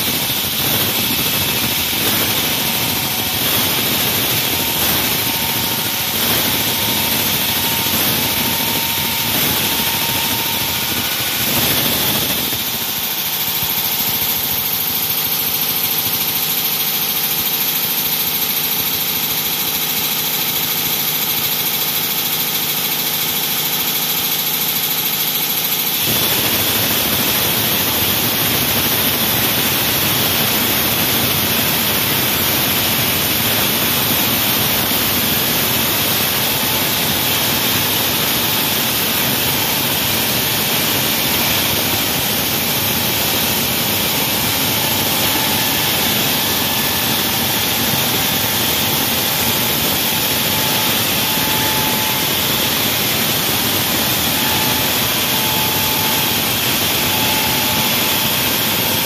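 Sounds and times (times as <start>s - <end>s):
wall saw cutting: 0.0s - 16.2s, 25.9s - 59.0s.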